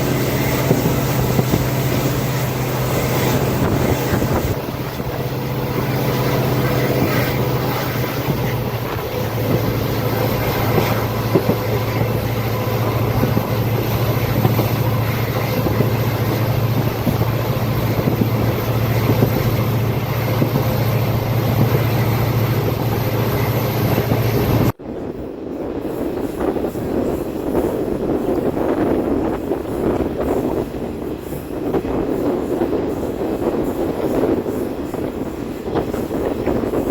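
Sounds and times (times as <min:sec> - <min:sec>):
diesel locomotive engine humming: 0:00.0 - 0:36.9
rushing air: 0:00.0 - 0:36.9
train wheels clattering on track: 0:00.0 - 0:36.9.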